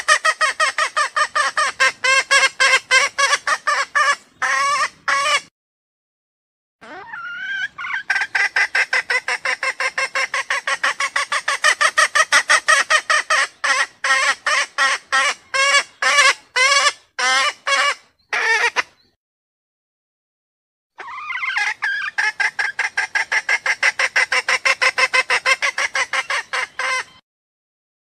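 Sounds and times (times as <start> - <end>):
hen calling: 0.1 - 5.5, 6.8 - 19.1, 21.0 - 27.2.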